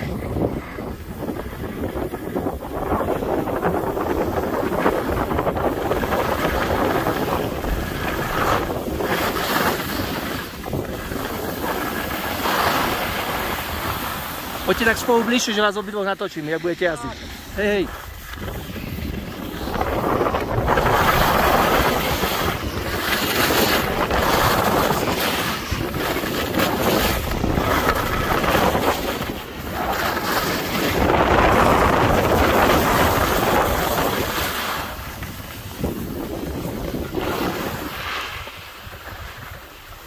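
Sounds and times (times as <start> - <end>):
skis scraping over packed snow: 0.0 - 40.0
wind rushing over microphone: 0.0 - 40.0.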